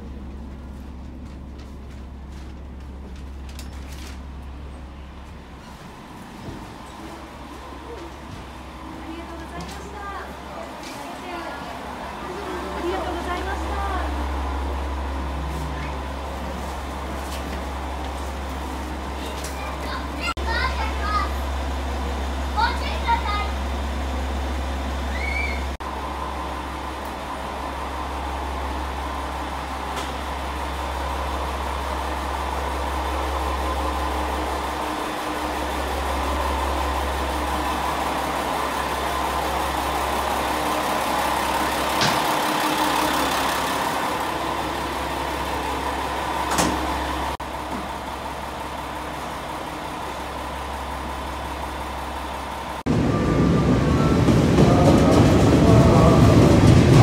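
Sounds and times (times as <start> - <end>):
diesel railcar idling: 0.0 - 57.0
train passing: 4.2 - 57.0.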